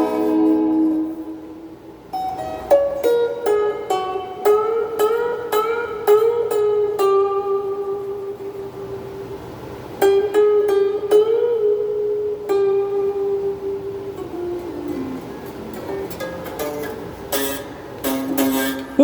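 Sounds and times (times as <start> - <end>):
electric guitar lead with bends: 0.0 - 19.0.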